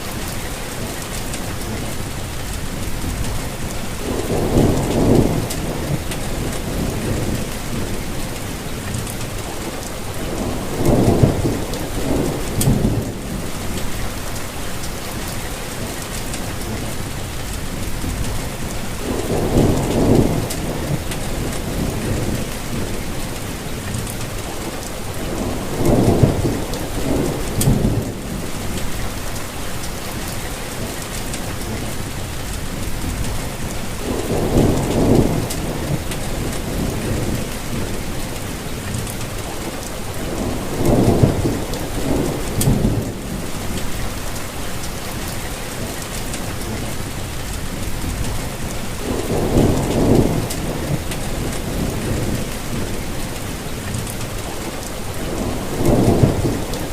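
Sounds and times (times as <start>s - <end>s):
rain hissing on leaves: 0.0s - 56.9s
thunder rumbling: 1.5s - 56.9s.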